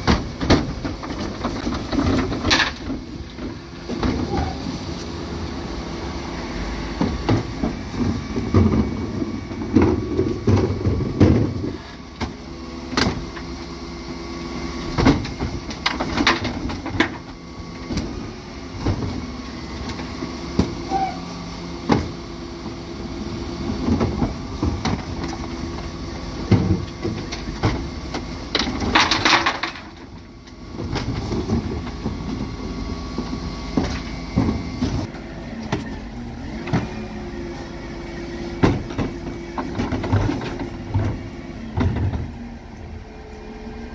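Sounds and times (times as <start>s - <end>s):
plastic bins clattering on lift: 0.0s - 4.7s, 6.9s - 13.7s, 14.9s - 21.0s, 21.8s - 35.9s, 38.5s - 42.5s
refuse truck humming: 0.0s - 43.9s.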